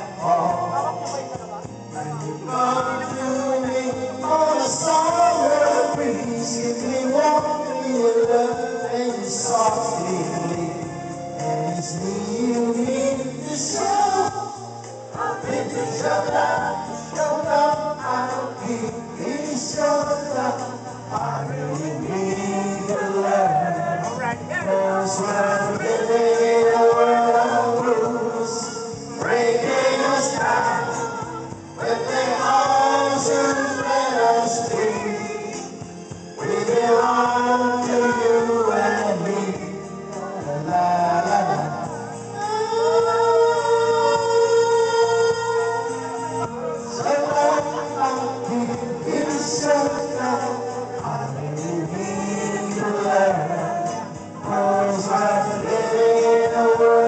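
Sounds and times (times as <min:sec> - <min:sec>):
group singing into microphones: 0:00.0 - 0:57.0
recorded backing music: 0:00.0 - 0:57.0.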